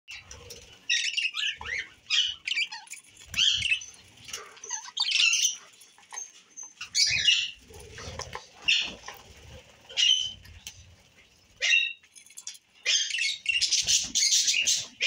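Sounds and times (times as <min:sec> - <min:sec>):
budgerigars chattering: 0:00.1 - 0:09.2, 0:09.9 - 0:10.4, 0:11.6 - 0:12.0, 0:12.8 - 0:15.0.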